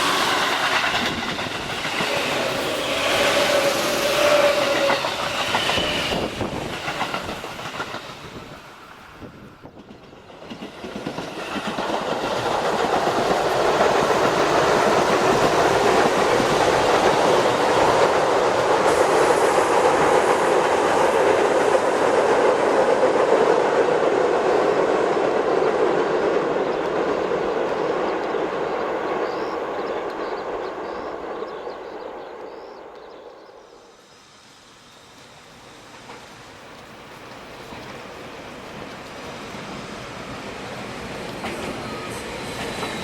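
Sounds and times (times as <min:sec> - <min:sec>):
electric train passing on rails: 0:00.0 - 0:43.0.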